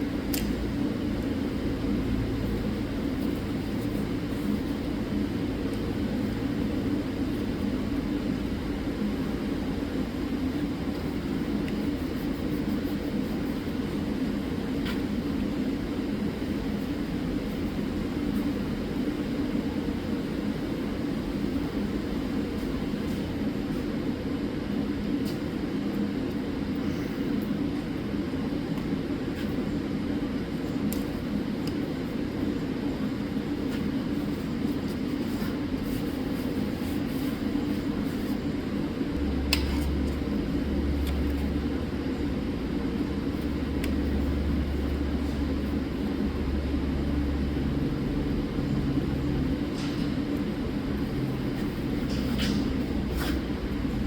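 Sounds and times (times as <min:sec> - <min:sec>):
steady mechanical drone: 0:00.0 - 0:54.0.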